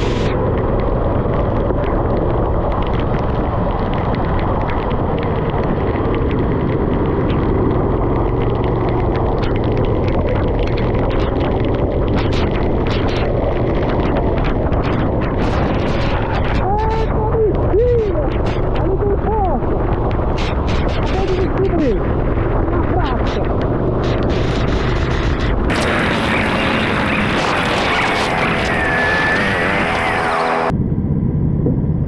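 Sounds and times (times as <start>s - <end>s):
go-kart engine running: 0.0s - 30.7s
road noise: 0.0s - 31.0s
wind noise: 0.0s - 32.0s.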